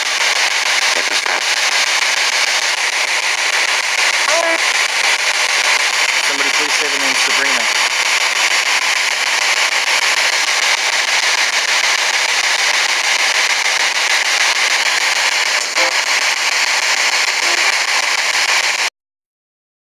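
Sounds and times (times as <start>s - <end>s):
radio static hiss: 0.0s - 18.9s.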